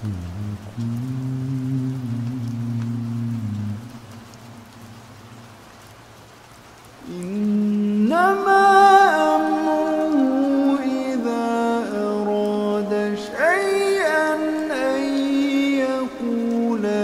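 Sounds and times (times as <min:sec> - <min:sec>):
person reciting melodically: 0:00.0 - 0:05.1, 0:07.0 - 0:17.0
steady rain: 0:00.0 - 0:17.0.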